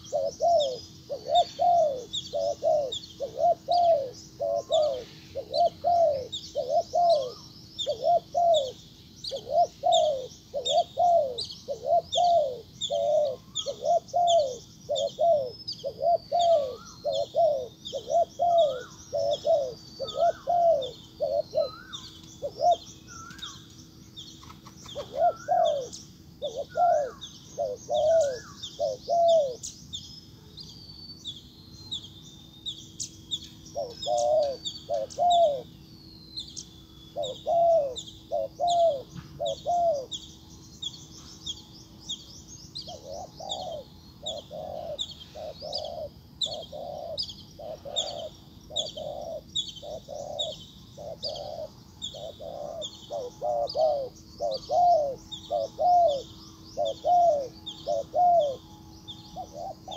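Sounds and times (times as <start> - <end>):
dove cooing: 0.0 - 23.6, 24.4 - 29.7, 33.7 - 35.8, 36.6 - 40.3, 42.8 - 59.9
faint steady hum: 0.0 - 59.9.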